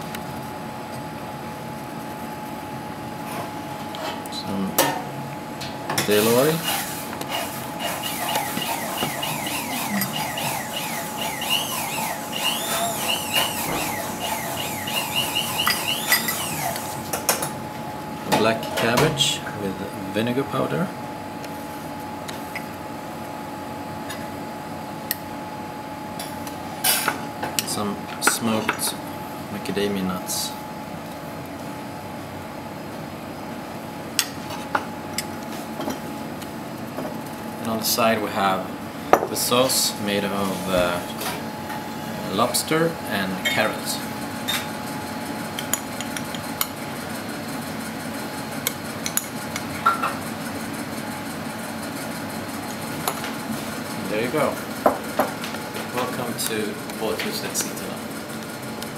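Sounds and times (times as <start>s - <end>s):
kitchen background hum: 0.0s - 58.9s.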